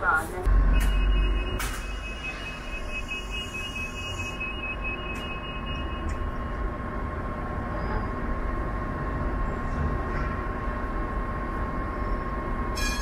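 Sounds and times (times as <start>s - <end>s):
tram electrical whine: 0.0s - 13.0s.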